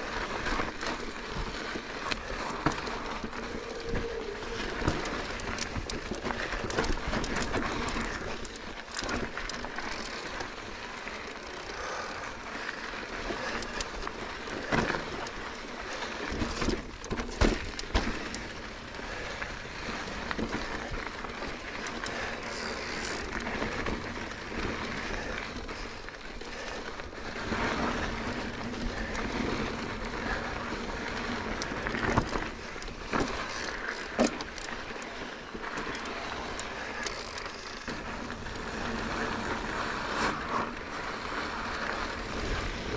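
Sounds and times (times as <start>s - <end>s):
bike tyre rush and rattle: 0.0s - 42.9s
wheels knocking on rocks: 0.0s - 42.9s.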